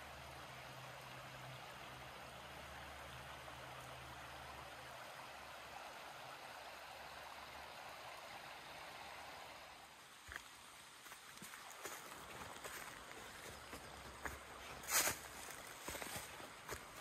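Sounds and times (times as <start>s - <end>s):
stream running over stones: 0.0s - 17.0s.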